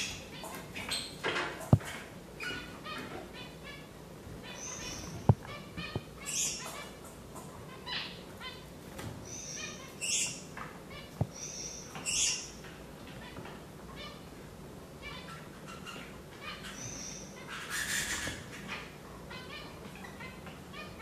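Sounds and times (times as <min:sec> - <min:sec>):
finches chirping: 0:00.0 - 0:14.3, 0:15.0 - 0:21.0.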